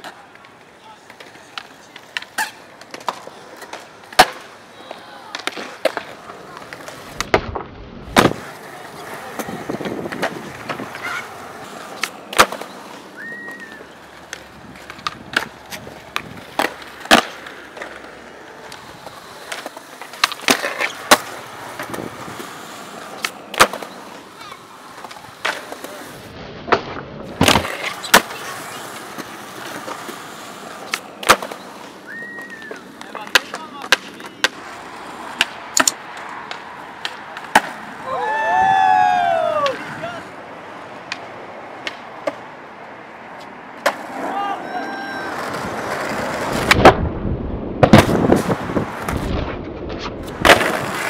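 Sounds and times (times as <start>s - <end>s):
skateboard clacks: 0.0s - 47.0s, 47.8s - 51.0s
skateboard wheels rolling on concrete: 0.0s - 51.0s.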